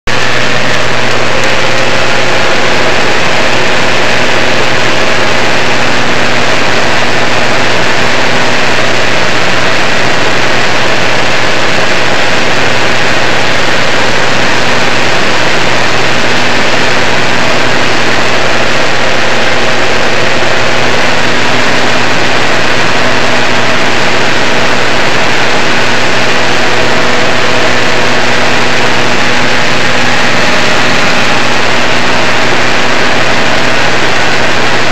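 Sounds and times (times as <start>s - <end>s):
airplane engine and propeller droning: 0.1s - 34.9s.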